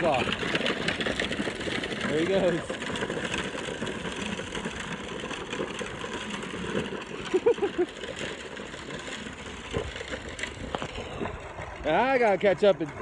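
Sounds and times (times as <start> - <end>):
trike wheels rolling on asphalt: 0.0 - 13.0.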